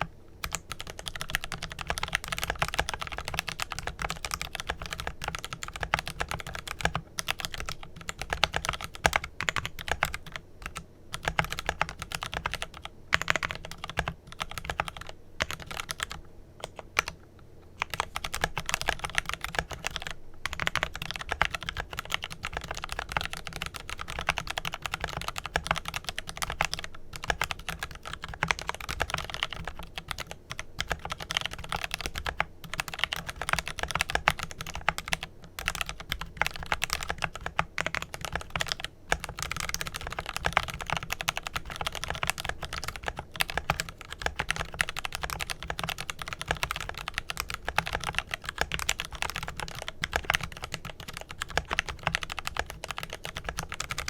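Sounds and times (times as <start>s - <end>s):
mechanical keyboard typing: 0.0s - 17.2s, 17.8s - 54.0s.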